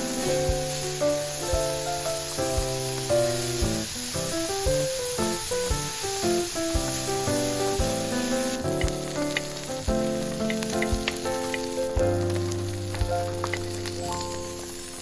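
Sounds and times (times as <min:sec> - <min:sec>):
food frying and sizzling: 0:00.0 - 0:15.0.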